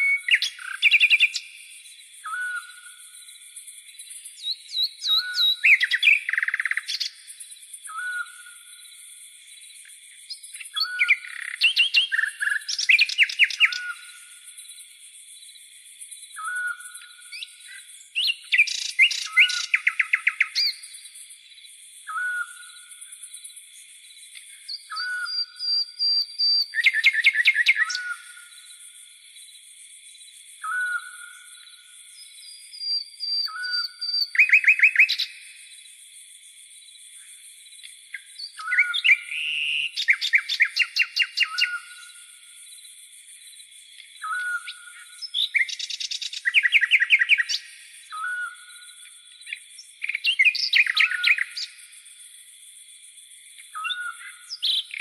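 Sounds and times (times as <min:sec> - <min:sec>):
birds singing: 0:00.0 - 0:52.6, 0:53.3 - 0:55.0
crickets chirping: 0:00.0 - 0:55.0.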